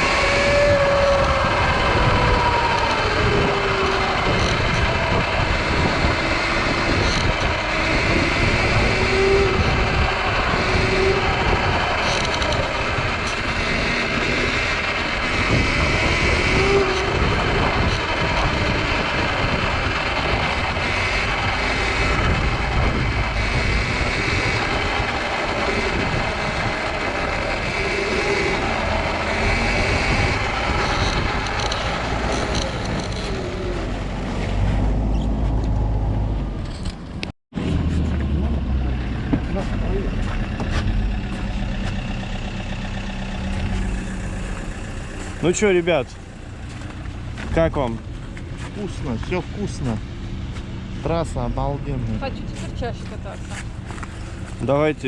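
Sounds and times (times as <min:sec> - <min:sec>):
vehicle running noise: 0:00.0 - 0:55.0.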